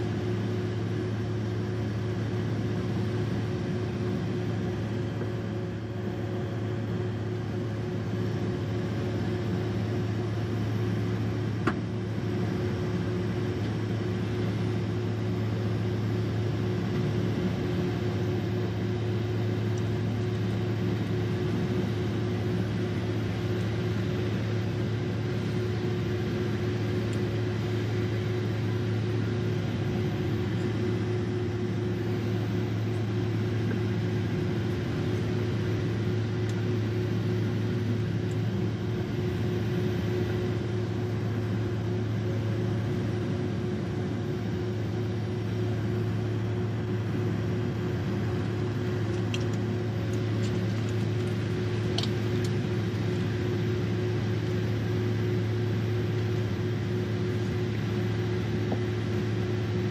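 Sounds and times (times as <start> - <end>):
engine hum with low drone: 0.0 - 59.9.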